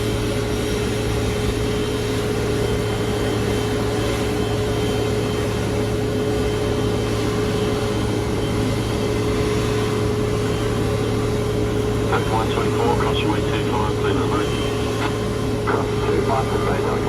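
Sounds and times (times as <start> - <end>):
jet airliner idling: 0.0 - 17.0.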